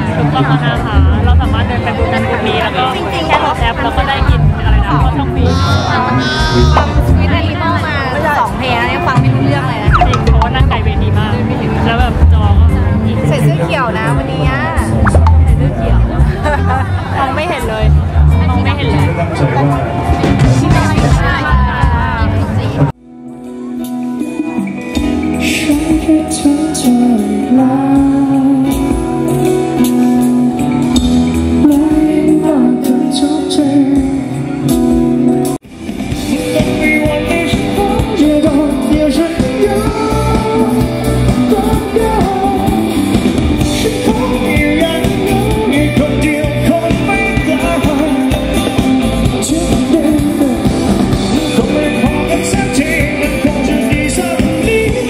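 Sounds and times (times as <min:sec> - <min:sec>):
band playing with lead vocal: 0:00.0 - 0:55.0.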